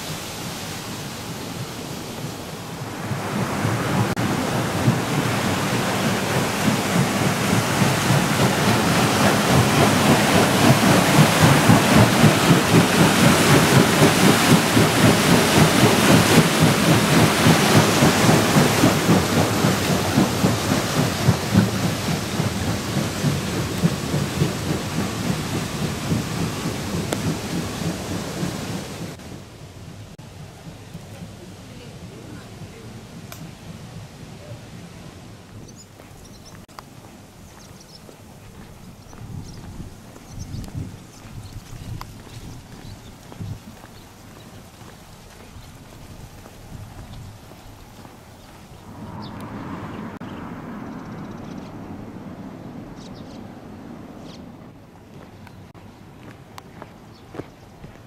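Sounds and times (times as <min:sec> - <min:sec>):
water rushing down a channel: 0:00.0 - 0:35.6, 0:36.8 - 0:50.9.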